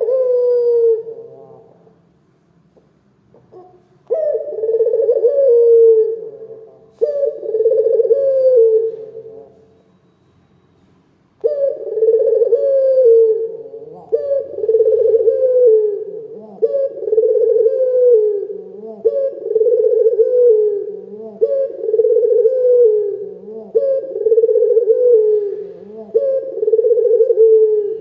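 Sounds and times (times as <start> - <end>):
dove cooing: 0.0 - 2.0, 3.4 - 9.7, 11.4 - 28.0.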